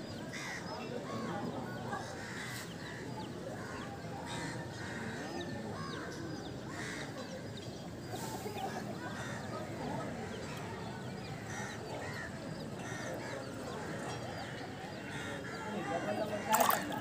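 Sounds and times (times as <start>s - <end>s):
birds calling and chirping: 0.0s - 17.0s.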